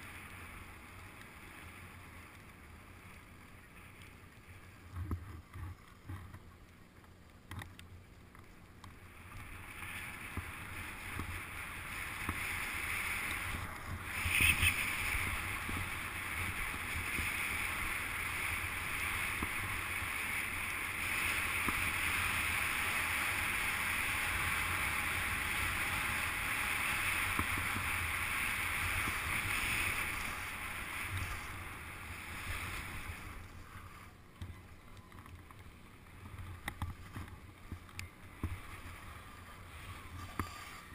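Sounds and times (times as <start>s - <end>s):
skis running over snow: 0.0s - 7.4s, 8.0s - 40.9s.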